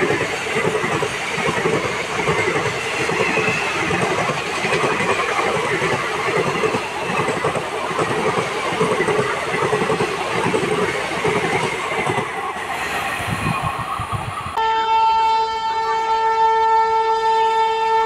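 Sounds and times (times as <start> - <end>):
train wheels rumbling on rails: 0.0 - 14.6.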